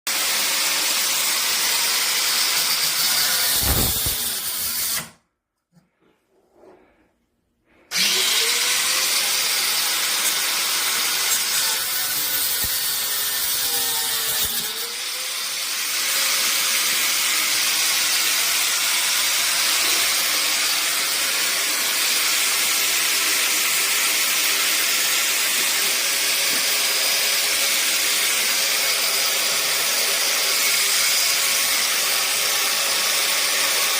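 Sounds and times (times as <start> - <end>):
power tool running: 0.1 - 5.2, 7.9 - 33.9.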